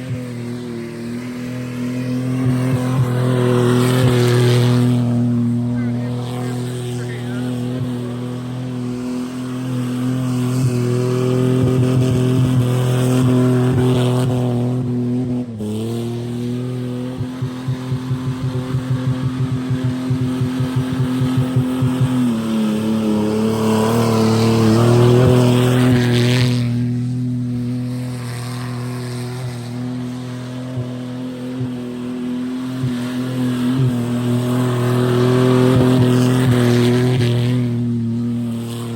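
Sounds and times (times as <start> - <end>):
car engine at high revs: 0.0 - 38.9.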